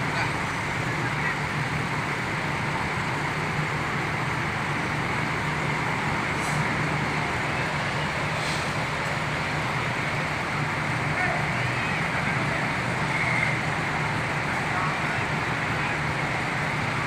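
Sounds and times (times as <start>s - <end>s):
bus diesel engines idling: 0.0s - 17.0s.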